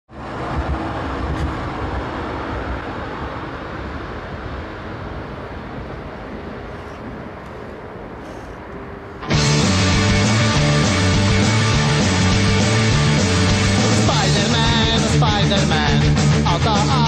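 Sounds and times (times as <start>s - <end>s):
road traffic rumble: 0.1s - 17.0s
tram passing: 0.1s - 17.0s.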